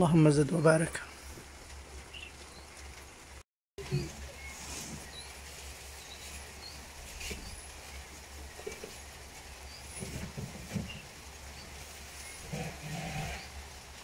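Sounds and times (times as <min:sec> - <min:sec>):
rain on leaves: 0:01.1 - 0:14.0.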